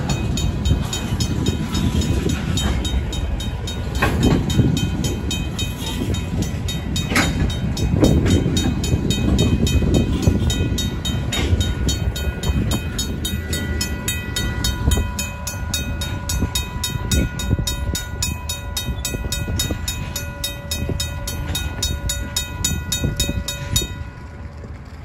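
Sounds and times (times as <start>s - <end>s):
crossing bell ringing rapidly: 0.0s - 25.0s
freight train rumbling: 0.0s - 25.0s
train wheel clunks: 0.0s - 25.0s.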